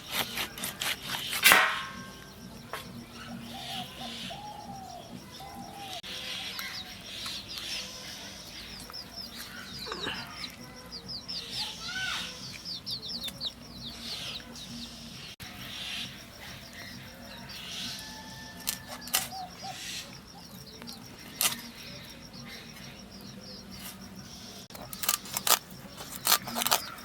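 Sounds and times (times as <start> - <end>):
birds chirping: 0.0 - 27.0
lower arched bird calls: 0.0 - 27.0.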